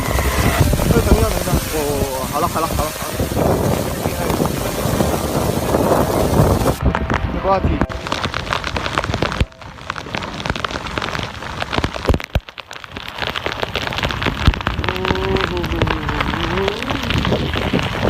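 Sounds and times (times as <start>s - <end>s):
heavy rain pelting down: 0.0s - 18.0s.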